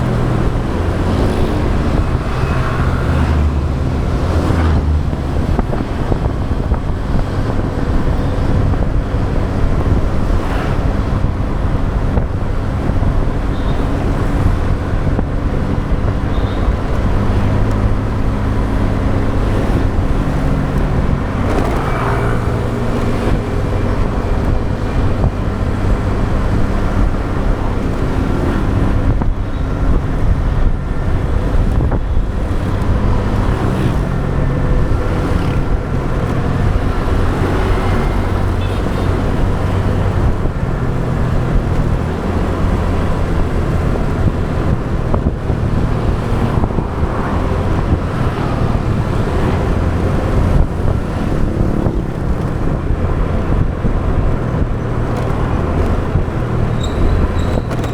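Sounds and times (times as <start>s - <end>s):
road noise: 0.0s - 57.9s
traffic: 0.0s - 57.9s
wind rumble on microphone: 0.0s - 57.9s.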